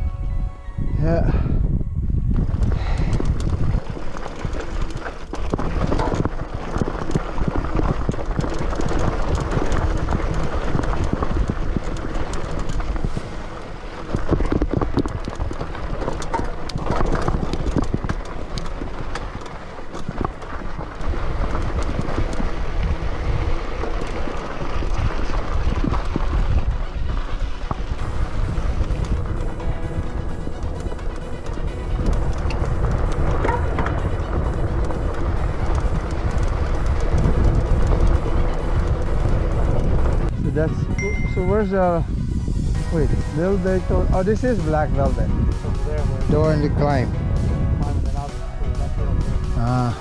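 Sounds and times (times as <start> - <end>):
wind rumble on microphone: 0.0 - 50.0
bike tyres crunching on dirt: 2.2 - 50.0
bike rattling over rocks: 2.3 - 48.2.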